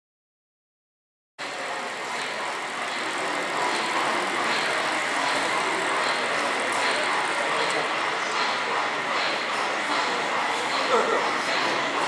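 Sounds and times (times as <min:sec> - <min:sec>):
model train rolling on track: 0:01.4 - 0:12.0.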